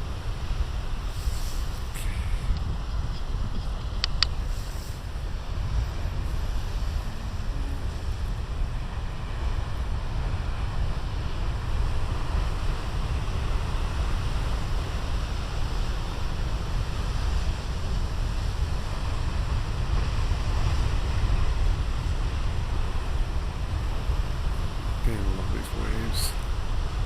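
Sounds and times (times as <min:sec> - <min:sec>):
ocean waves breaking: 0:00.0 - 0:27.0
wind on microphone: 0:00.0 - 0:27.0.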